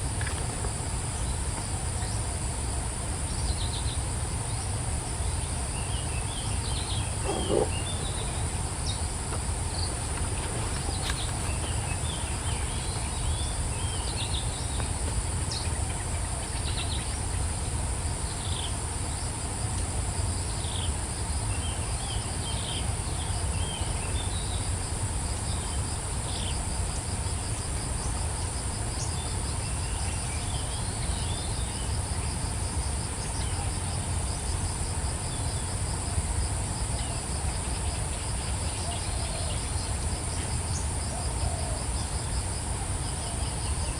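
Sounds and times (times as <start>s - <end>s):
fast pulsing insect call: 0.0s - 43.9s
high-pitched insect trill: 0.0s - 43.9s.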